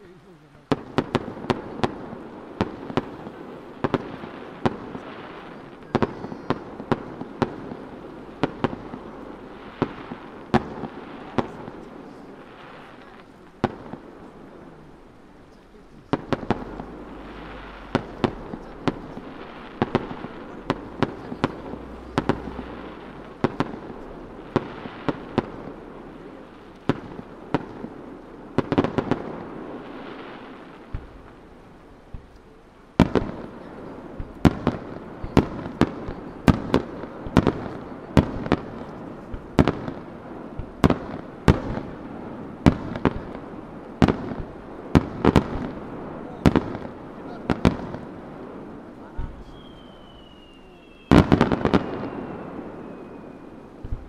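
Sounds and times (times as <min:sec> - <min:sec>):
firework shells bursting: 0:00.7 - 0:54.0.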